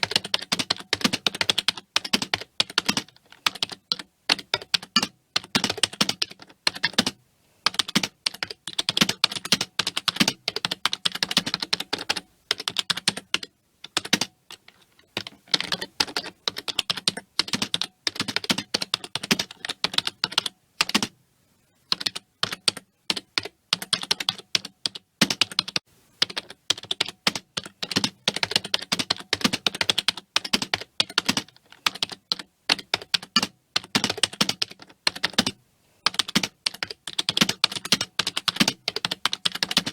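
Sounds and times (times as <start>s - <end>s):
typing on computer keyboard: 0.0s - 21.2s, 21.9s - 39.9s.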